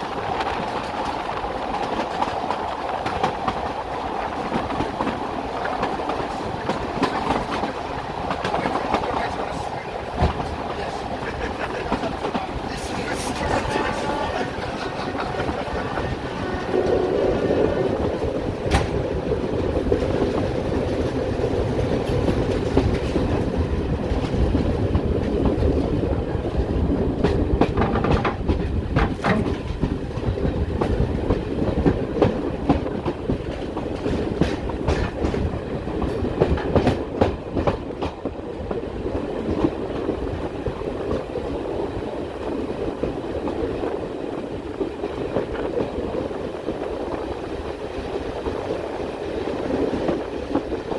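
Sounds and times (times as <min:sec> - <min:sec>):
wheels clicking over rail joints: 0:00.0 - 0:47.7
train rumbling: 0:00.0 - 0:50.9.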